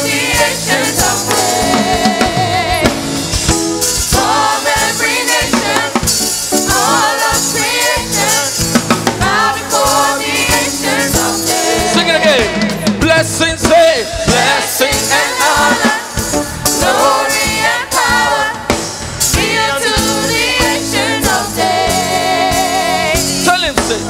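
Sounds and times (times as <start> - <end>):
band with drums and percussion: 0.0 - 24.0
choir singing gospel music: 0.0 - 24.0.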